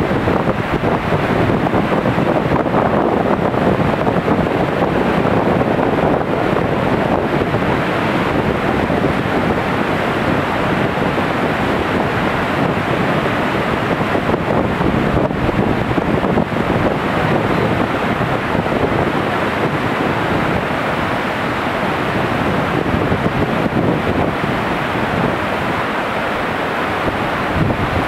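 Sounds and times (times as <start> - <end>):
whitewater rushing: 0.0 - 28.0.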